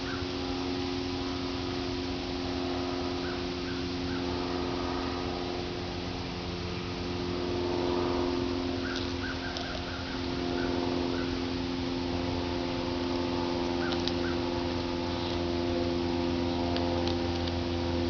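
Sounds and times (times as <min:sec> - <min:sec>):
birds chirping faintly: 0:00.0 - 0:18.0
steady hum: 0:00.0 - 0:18.0.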